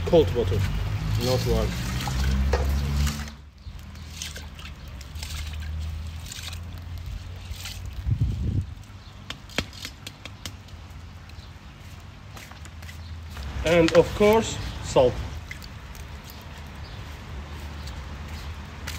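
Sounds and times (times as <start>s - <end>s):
water sloshing and trickling: 0.0s - 18.9s.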